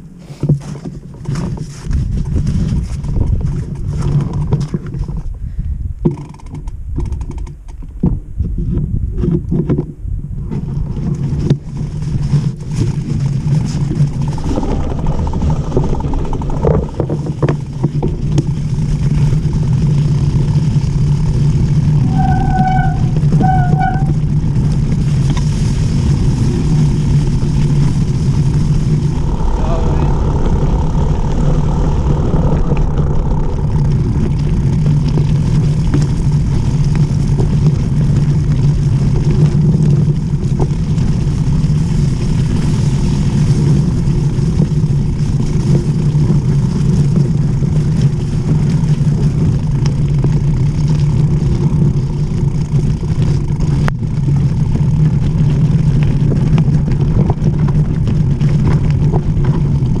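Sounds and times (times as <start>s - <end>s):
gravel and bike rattles: 0.0s - 60.0s
wind and tyre rumble: 0.0s - 60.0s.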